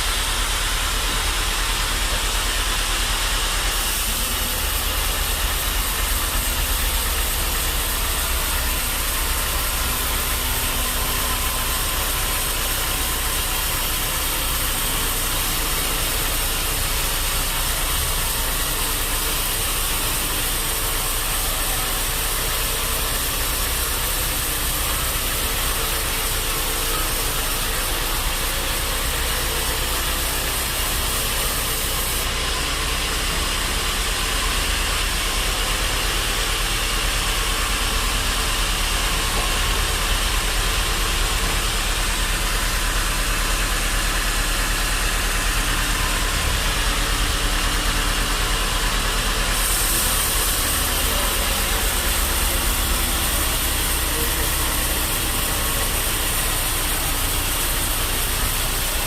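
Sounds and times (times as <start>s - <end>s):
band sawmill machinery running: 0.0s - 59.0s.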